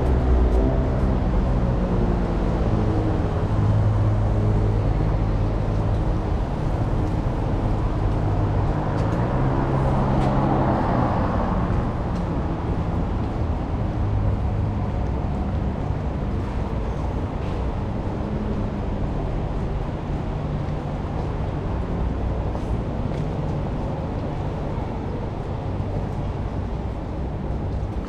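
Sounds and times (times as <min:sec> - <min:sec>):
vehicle engines humming: 0:00.0 - 0:28.0.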